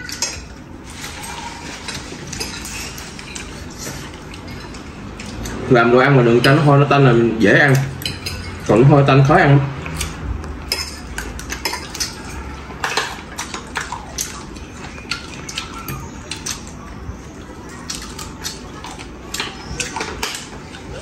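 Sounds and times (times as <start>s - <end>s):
cutlery clinking on plates: 0.0s - 5.6s, 7.6s - 16.8s, 17.8s - 20.8s.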